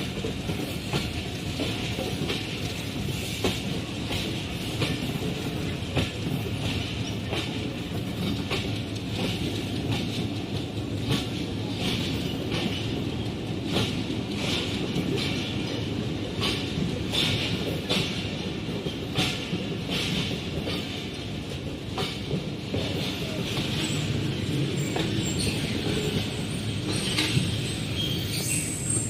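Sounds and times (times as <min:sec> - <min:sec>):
train rumble and hiss: 0:00.0 - 0:29.0
train wheels clicking over rail joints: 0:00.0 - 0:29.0.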